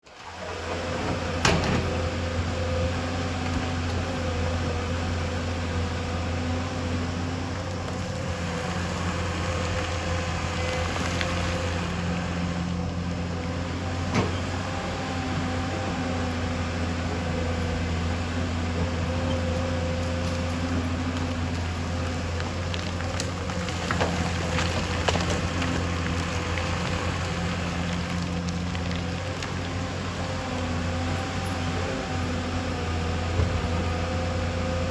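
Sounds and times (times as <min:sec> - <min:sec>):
excavator diesel engine: 0:00.1 - 0:34.9.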